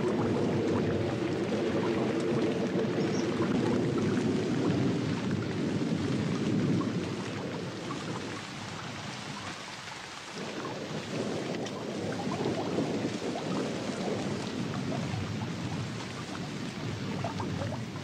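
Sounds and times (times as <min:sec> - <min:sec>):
rain falling on water: 0:00.0 - 0:18.0
thunder rumbling: 0:00.0 - 0:18.0.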